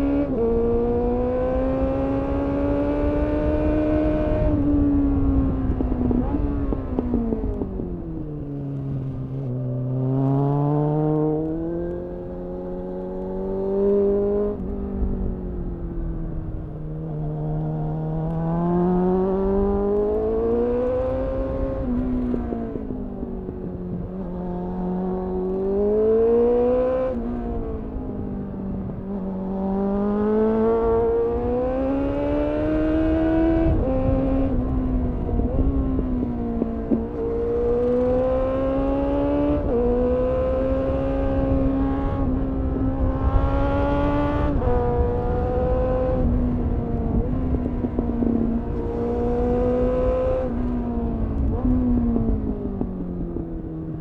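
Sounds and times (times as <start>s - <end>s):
wind noise on microphone: 0.0s - 9.3s, 12.1s - 53.9s
motorcycle engine accelerating: 0.0s - 54.0s.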